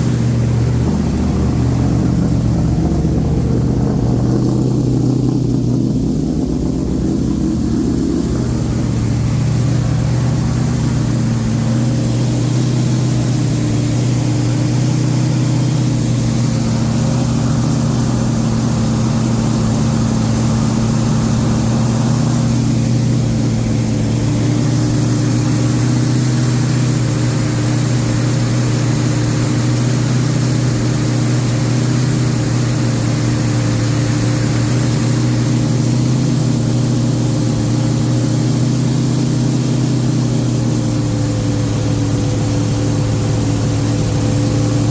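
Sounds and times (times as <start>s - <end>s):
car engine running steadily: 0.0s - 44.9s.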